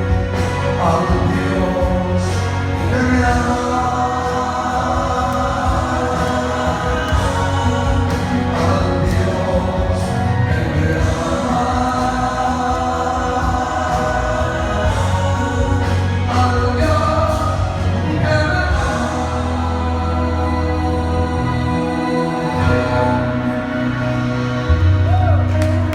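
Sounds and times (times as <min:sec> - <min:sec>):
gospel choir with band: 0:00.0 - 0:25.9.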